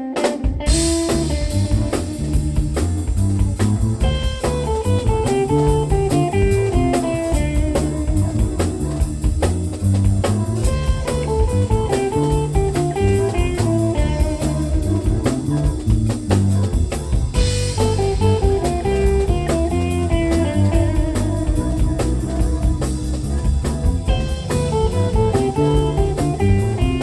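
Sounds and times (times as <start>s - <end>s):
bass line: 0.0s - 27.0s
drum kit beat: 0.0s - 27.0s
guitar lines: 0.0s - 27.0s.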